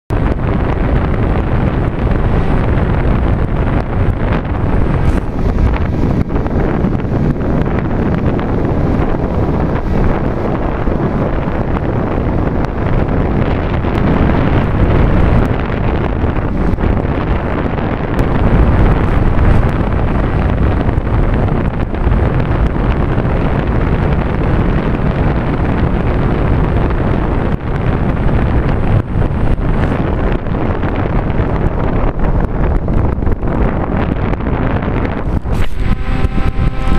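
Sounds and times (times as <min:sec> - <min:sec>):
wind buffeting microphone: 0:00.1 - 0:36.9
electric motor and propeller: 0:00.2 - 0:36.9.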